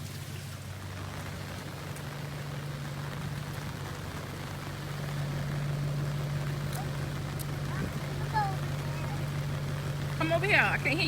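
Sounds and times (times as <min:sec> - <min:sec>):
low steady hum: 0:00.0 - 0:11.0
steady rain falling: 0:00.0 - 0:11.0.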